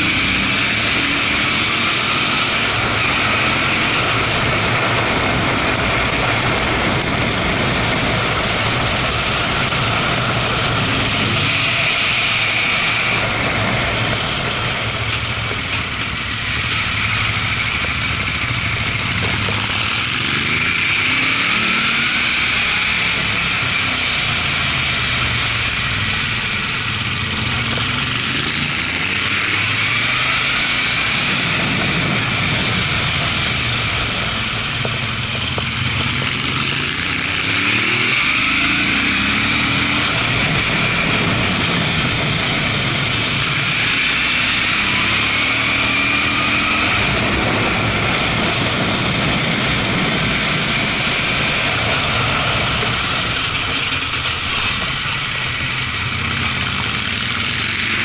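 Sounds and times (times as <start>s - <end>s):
wind rushing over microphone: 0.0s - 23.8s, 27.6s - 57.8s
motorcycle engine pulling: 0.0s - 58.0s.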